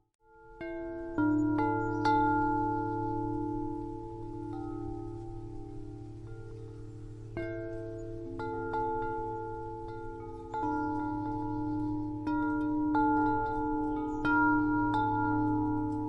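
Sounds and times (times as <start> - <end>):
wind chimes ringing: 0.2 - 16.0.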